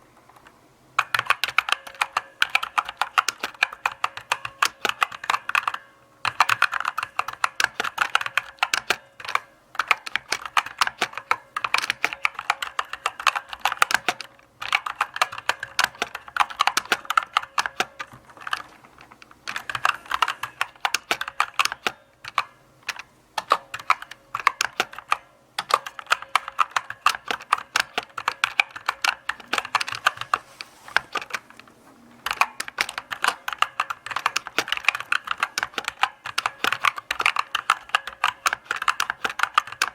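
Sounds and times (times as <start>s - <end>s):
typing on mechanical keyboard: 1.0s - 39.9s.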